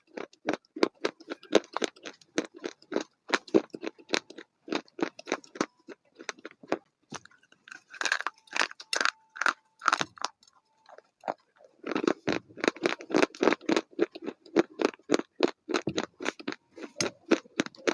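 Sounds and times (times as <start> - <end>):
chewing crunchy food: 0.0 - 17.9.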